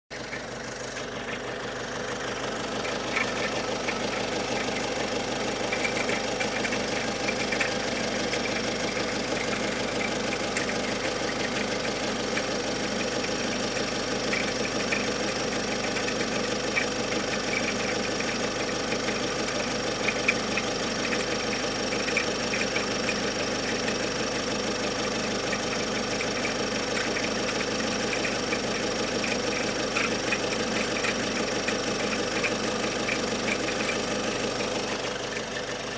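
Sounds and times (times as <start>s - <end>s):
diesel engine running: 0.1s - 35.9s
light rapid engine knocking: 0.1s - 35.9s.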